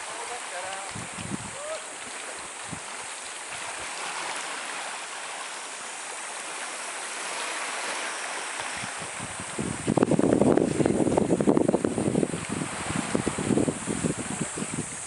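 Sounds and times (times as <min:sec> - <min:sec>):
sea water lapping on rocks: 0:00.0 - 0:15.0.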